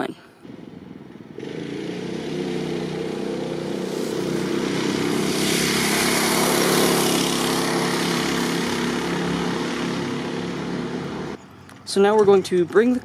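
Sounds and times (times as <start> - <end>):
go-kart engine passing: 0.4 - 11.4.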